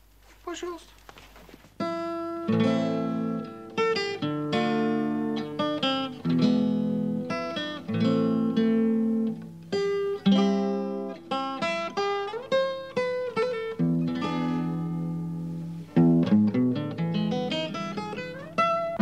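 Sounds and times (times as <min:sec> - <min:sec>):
acoustic guitar strumming chords: 0:01.8 - 0:19.0.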